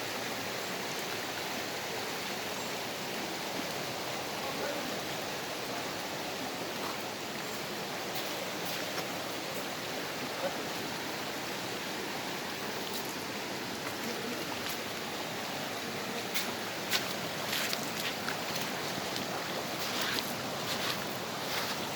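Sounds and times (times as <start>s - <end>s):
water rushing over rocks: 0.0s - 21.9s.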